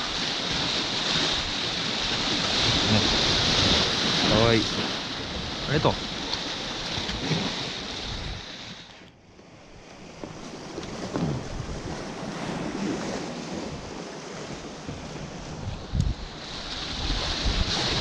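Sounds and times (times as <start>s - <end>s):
wind buffeting microphone: 0.0s - 8.5s, 10.7s - 18.0s
surf washing against rocks: 0.0s - 9.1s, 10.0s - 18.0s.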